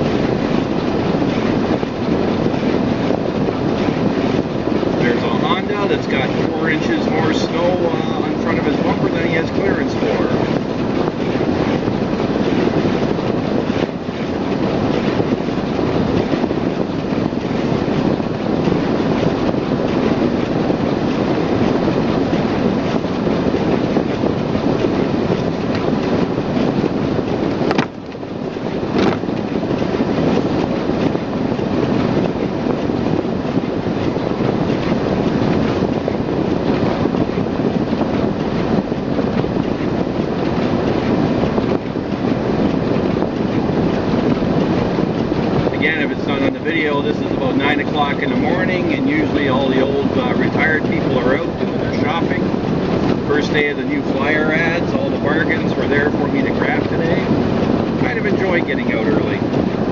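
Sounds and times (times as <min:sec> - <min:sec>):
heater fan blowing: 0:00.0 - 0:59.9
tyre and engine noise: 0:00.0 - 0:59.9.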